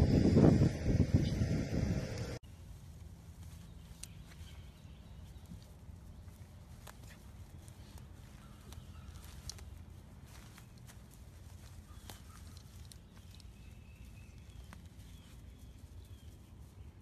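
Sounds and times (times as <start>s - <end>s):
low steady rumble: 0.0s - 17.0s
dog rustling in grass: 2.4s - 17.0s.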